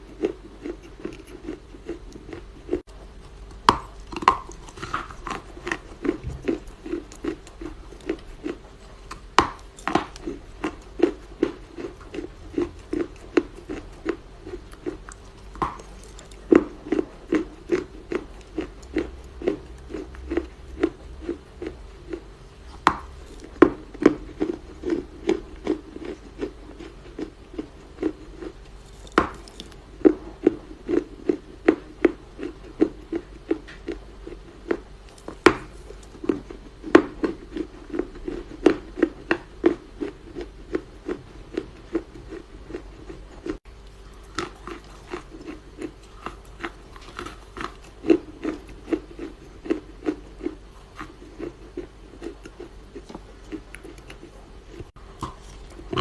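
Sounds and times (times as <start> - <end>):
chewing crunches: 0.0 - 56.0.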